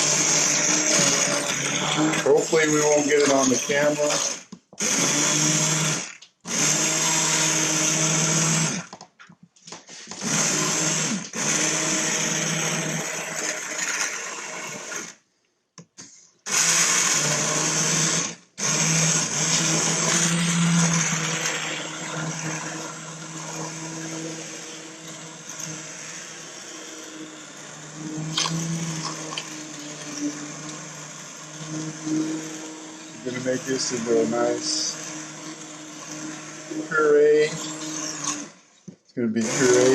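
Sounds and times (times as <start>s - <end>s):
immersion blender whirring: 0.0s - 9.1s, 9.9s - 15.2s, 16.4s - 39.9s.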